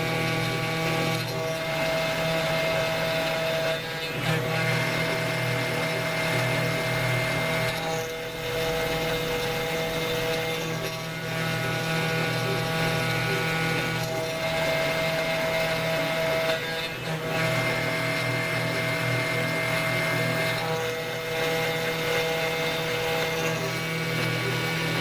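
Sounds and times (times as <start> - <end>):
router spindle whine cutting plastic: 0.0 - 25.0.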